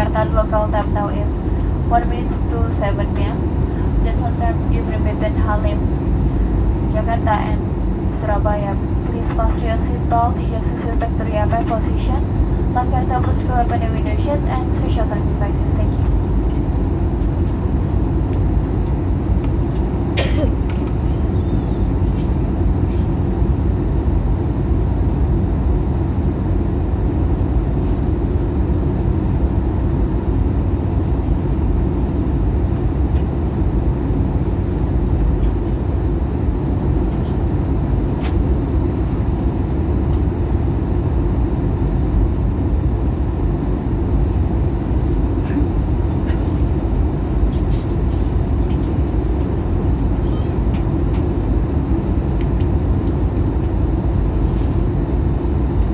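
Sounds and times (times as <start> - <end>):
airplane cabin rumble: 0.0 - 55.9.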